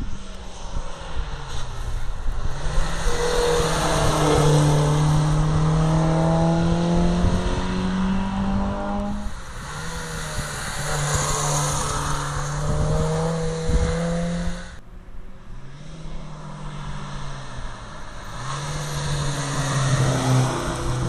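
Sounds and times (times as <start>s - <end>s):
car engine accelerating hard: 0.0s - 14.8s, 15.6s - 21.0s.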